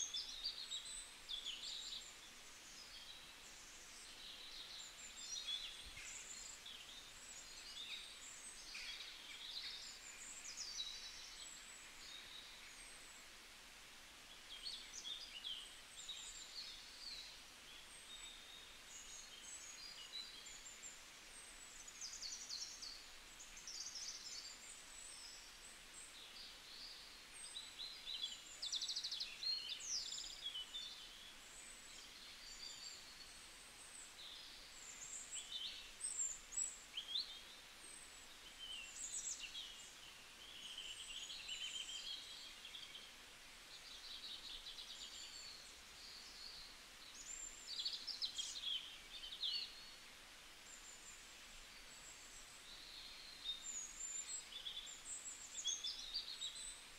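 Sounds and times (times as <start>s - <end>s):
faint hiss: 0.0s - 56.9s.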